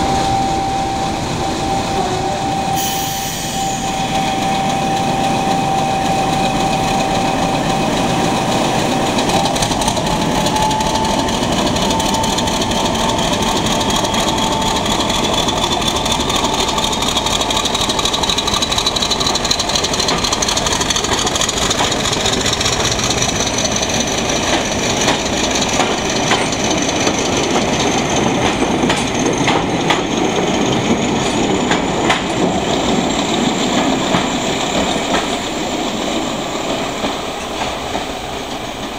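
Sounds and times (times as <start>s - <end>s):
diesel locomotive engine whining: 0.0s - 38.9s
train wheels clicking over rail joints: 6.3s - 38.9s.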